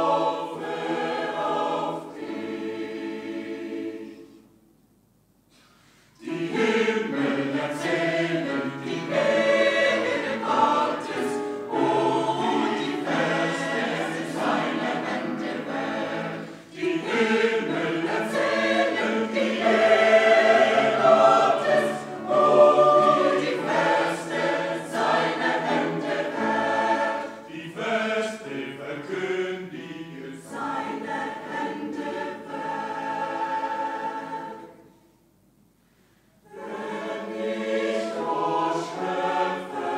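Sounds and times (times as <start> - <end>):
mixed choir singing a hymn: 0.0 - 4.6, 6.2 - 35.0, 36.4 - 39.9.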